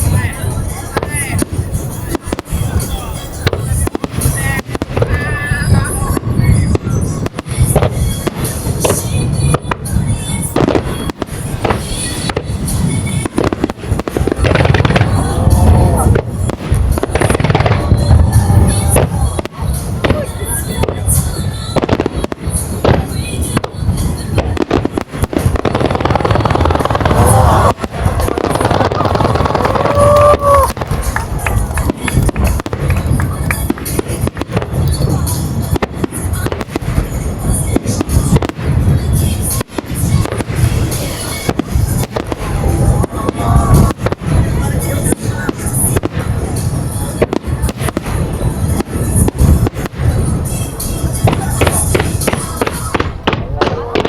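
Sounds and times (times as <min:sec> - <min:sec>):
fireworks booming and crackling: 0:00.0 - 0:54.0
music playing: 0:00.0 - 0:54.0.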